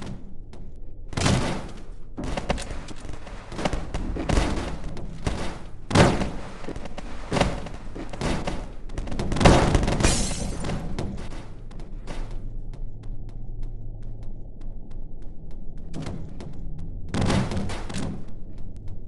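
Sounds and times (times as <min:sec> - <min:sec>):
crashes and thuds: 0:00.0 - 0:12.5, 0:15.8 - 0:19.0.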